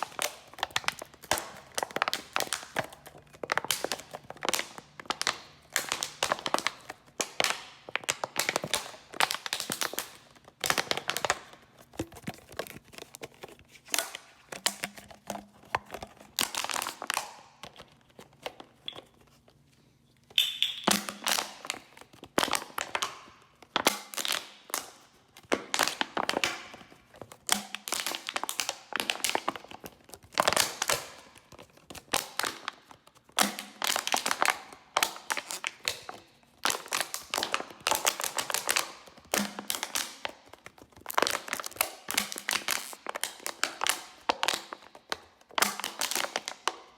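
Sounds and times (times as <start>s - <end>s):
bottle crinkling and crackling: 0.0s - 46.9s.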